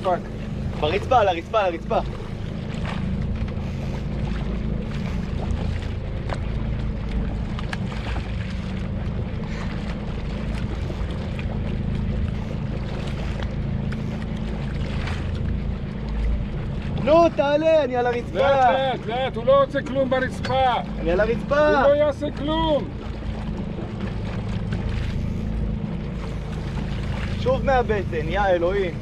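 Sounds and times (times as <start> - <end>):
boat engine idling: 0.0 - 29.0
water and wind noise: 0.0 - 29.0.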